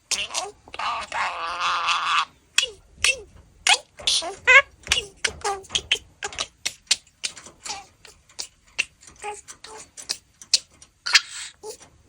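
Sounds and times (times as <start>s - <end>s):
budgerigar warbling: 0.1s - 11.7s.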